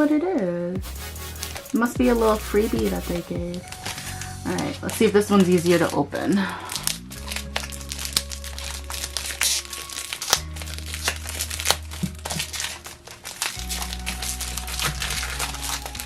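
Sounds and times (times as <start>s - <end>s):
instrumental background music: 0.0s - 16.0s
packaging crinkling: 0.8s - 16.0s.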